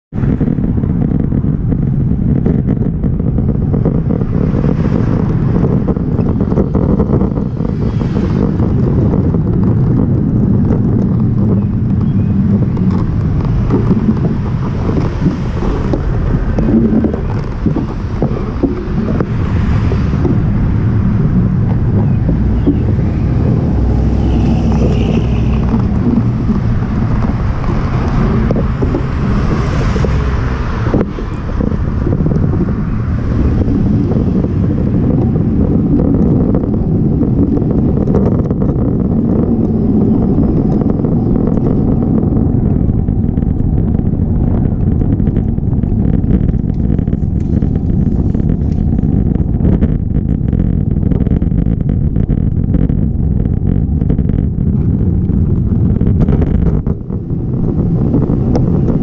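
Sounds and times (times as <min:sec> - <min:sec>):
wind rumble on microphone: 0:00.0 - 0:59.0
car traffic: 0:00.1 - 0:59.0.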